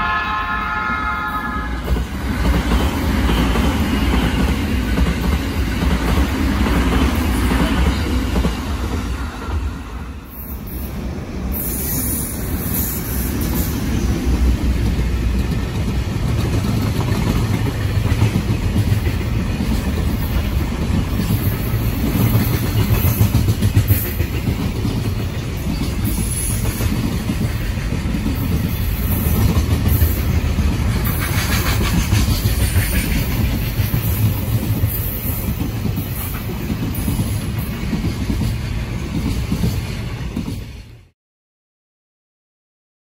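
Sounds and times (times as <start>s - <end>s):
freight train wheels rumbling: 0.0s - 41.2s
clickety-clack over rail joints: 1.8s - 9.4s, 12.7s - 41.1s.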